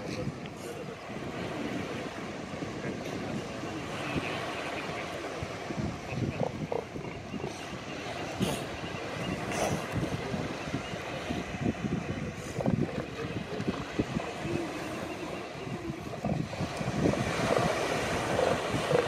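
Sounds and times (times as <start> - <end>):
ocean surf rumble: 0.0 - 19.0
wind buffeting microphone: 0.0 - 19.0.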